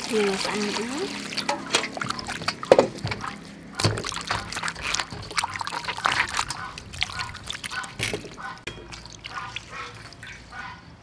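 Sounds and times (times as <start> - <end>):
water streaming and dripping: 0.0 - 10.9
water sloshing in a bowl: 0.0 - 11.0.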